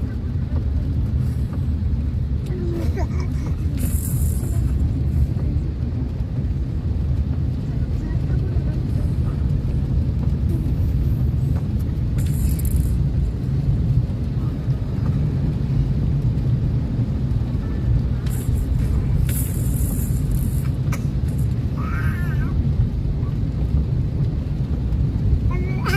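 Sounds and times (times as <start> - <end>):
low rumble of car cabin: 0.0 - 25.9.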